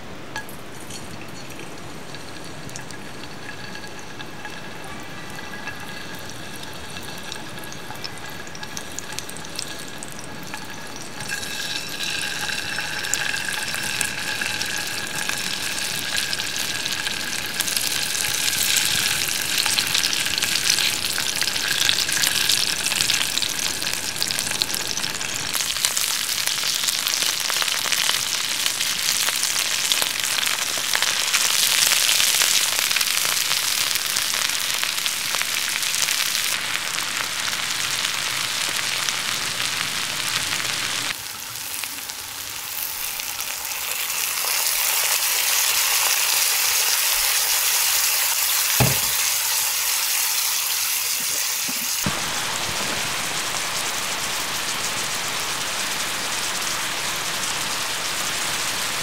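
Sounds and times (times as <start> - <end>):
fish frying in hot oil: 0.0 - 59.0.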